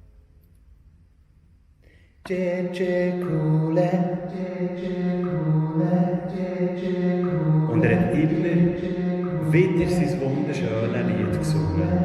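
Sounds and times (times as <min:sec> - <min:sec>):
person singing wordless chant: 0:02.2 - 0:12.0.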